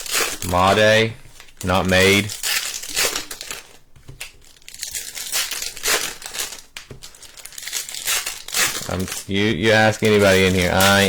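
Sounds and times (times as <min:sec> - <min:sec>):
foil wrappers crinkling and tearing: 0:00.0 - 0:11.0.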